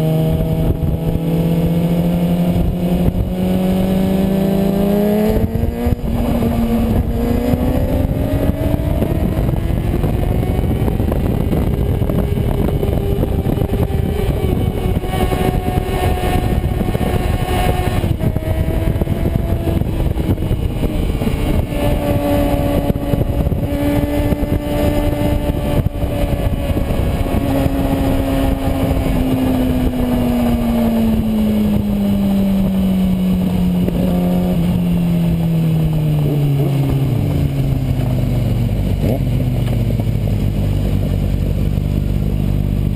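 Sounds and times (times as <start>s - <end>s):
motorcycle engine at road speed: 0.0s - 42.9s
wind rush: 0.0s - 42.9s.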